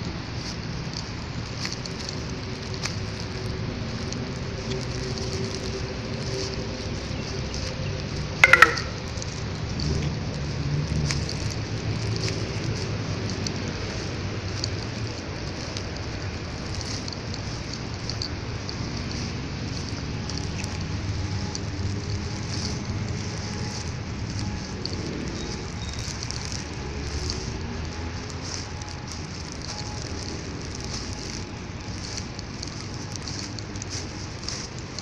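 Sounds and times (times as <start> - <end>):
crackly rustle: 0.0 - 35.0
traffic hum: 0.0 - 35.0.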